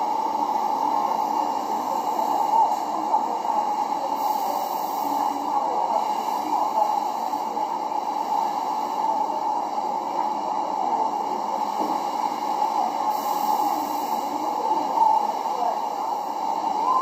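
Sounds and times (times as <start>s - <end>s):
muffled hiss: 0.0s - 17.0s.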